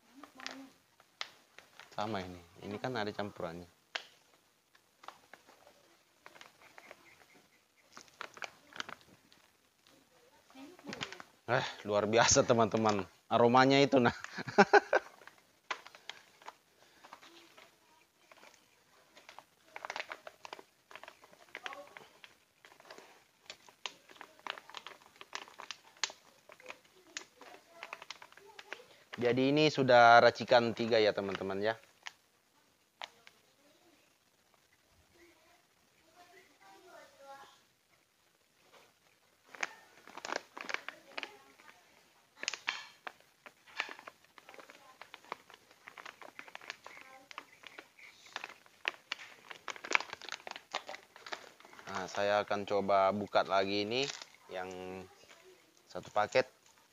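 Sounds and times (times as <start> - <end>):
plastic bags crinkling: 0.1 - 32.3, 38.6 - 56.9.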